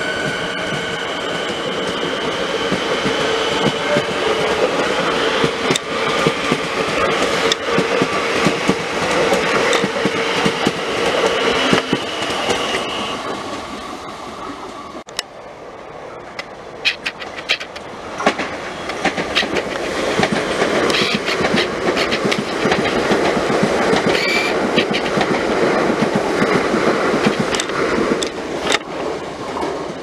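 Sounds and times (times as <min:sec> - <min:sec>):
electric train whine: 0:00.0 - 0:30.0
train rumble: 0:00.0 - 0:30.0
wheels clicking over rail joints: 0:02.7 - 0:13.4, 0:16.2 - 0:30.0.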